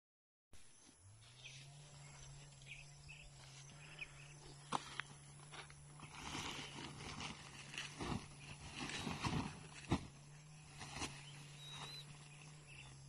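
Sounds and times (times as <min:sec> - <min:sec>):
faint chirps: 0:00.6 - 0:06.9, 0:07.6 - 0:13.0
steady low hum: 0:00.6 - 0:13.0.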